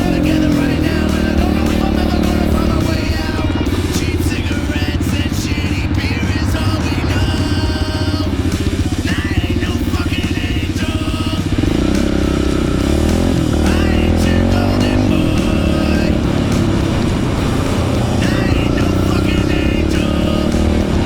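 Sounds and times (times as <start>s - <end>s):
music: 0.0s - 21.0s
pit bike engine revving: 0.0s - 21.0s.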